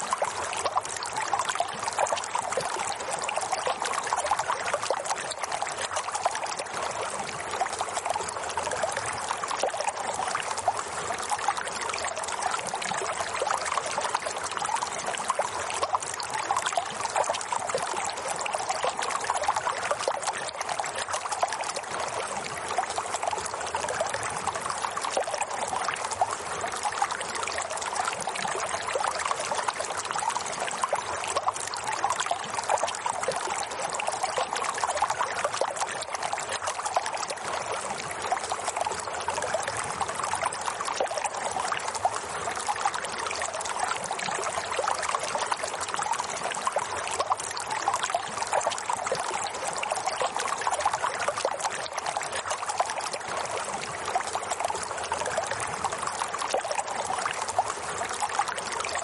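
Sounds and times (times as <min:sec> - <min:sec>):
running water flowing and trickling: 0:00.0 - 0:59.0.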